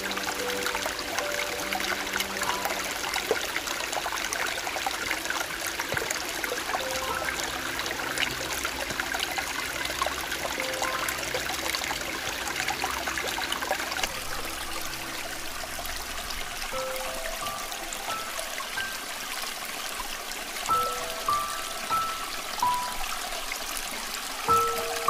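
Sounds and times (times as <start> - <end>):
soft background music: 0.0 - 25.0
stream trickling over stones: 0.0 - 25.0.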